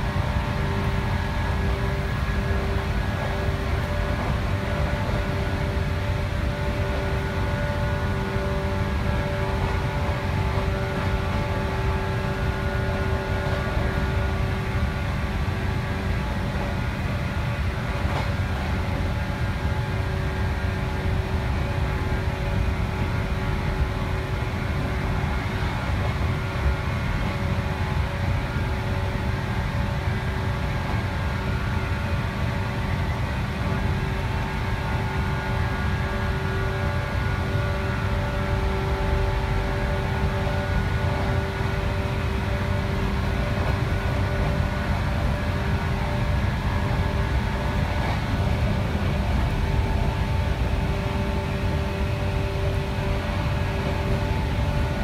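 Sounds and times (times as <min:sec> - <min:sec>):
steady tonal hum: 0:00.0 - 0:55.0
train wheels rumbling: 0:00.0 - 0:55.0.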